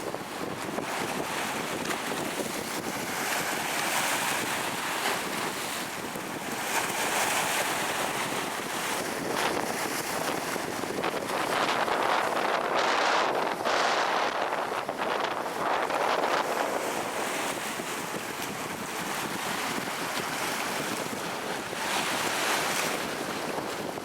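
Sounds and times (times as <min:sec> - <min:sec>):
storm wind gusting on microphone: 0:00.0 - 0:24.0
surf: 0:00.0 - 0:24.0.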